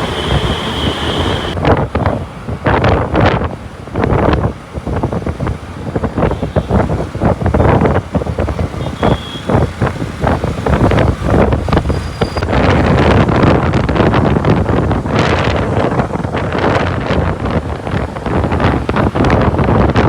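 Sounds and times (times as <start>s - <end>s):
highway traffic: 0.0s - 20.0s
vehicle rumble: 0.0s - 20.0s
wind buffeting microphone: 0.0s - 20.0s.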